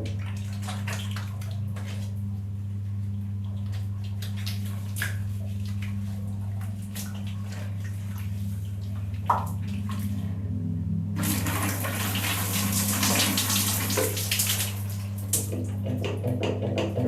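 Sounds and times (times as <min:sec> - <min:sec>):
water drips: 0:00.0 - 0:02.1, 0:03.0 - 0:10.2, 0:11.2 - 0:16.0
steady low hum: 0:00.0 - 0:17.0.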